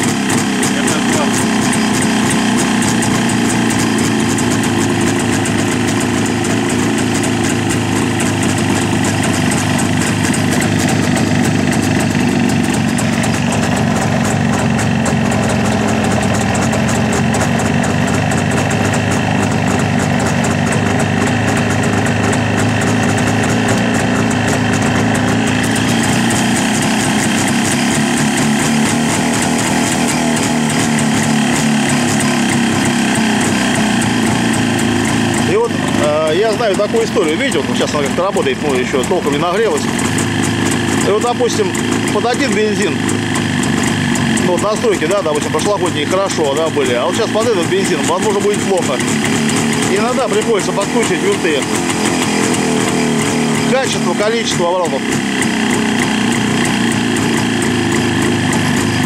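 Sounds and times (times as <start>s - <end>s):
two-stroke engine idling: 0.0s - 59.0s.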